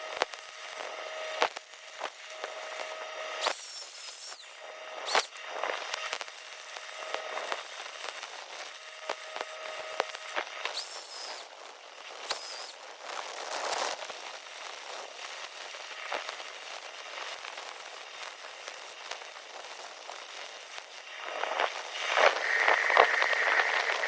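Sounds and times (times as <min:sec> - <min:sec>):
arc welding crackling and sizzling: 0:00.0 - 0:24.0.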